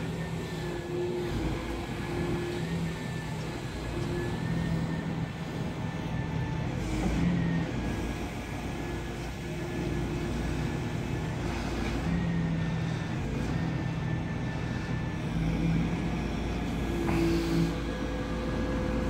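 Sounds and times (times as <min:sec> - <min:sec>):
excavator engine and hydraulics drone: 0:00.0 - 0:19.0.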